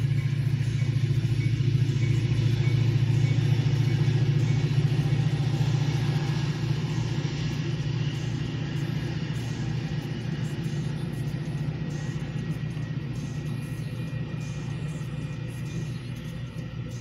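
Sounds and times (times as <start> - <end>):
train rolling over grade crossing: 0.0 - 17.0.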